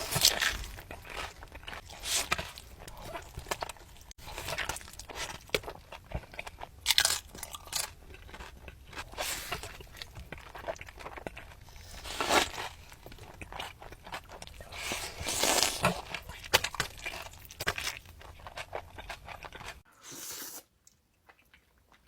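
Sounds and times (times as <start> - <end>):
crunchy chewing of food: 0.0 - 22.0.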